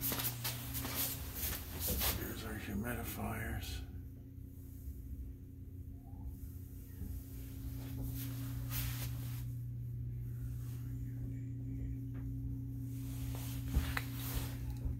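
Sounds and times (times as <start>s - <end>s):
furnace humming: 0.0s - 14.9s.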